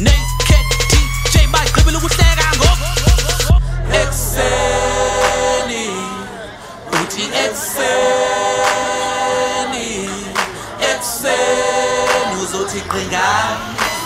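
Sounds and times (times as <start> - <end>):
layered sung vocals: 0.0 - 14.0.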